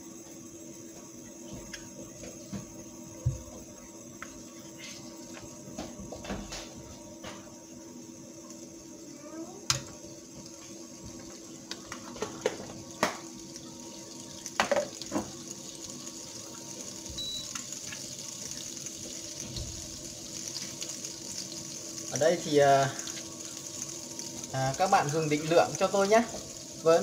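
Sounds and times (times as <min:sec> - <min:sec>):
margarine sizzling in a pan: 0:00.0 - 0:27.0.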